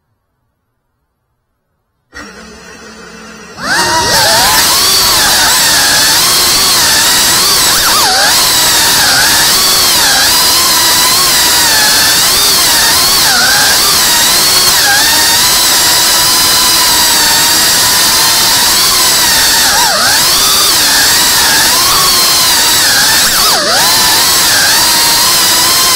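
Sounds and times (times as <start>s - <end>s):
drone motors whining: 2.1s - 25.9s.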